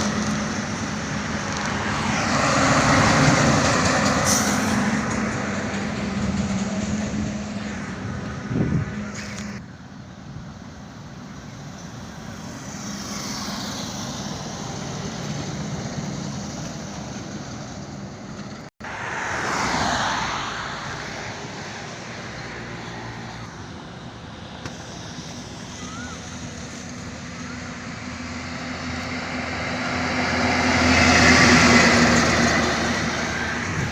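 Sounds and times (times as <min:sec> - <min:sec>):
vehicle going by: 0:00.0 - 0:09.7, 0:11.5 - 0:33.9
highway traffic passing: 0:00.0 - 0:33.9.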